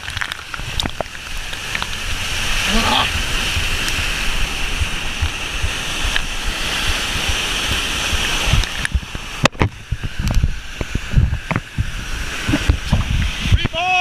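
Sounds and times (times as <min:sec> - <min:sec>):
waterfall rushing: 0:00.0 - 0:14.0
wind and handling on microphone: 0:00.0 - 0:14.0.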